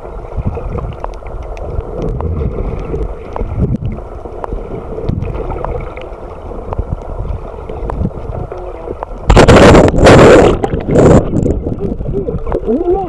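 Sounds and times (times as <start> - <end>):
muffled underwater rumble: 0.0 - 13.0
water splashing: 0.0 - 13.0.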